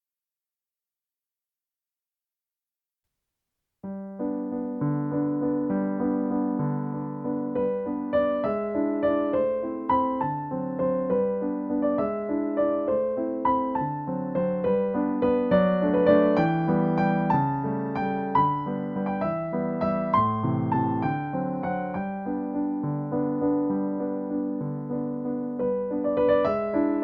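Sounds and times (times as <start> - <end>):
gentle piano melody: 3.9 - 27.0.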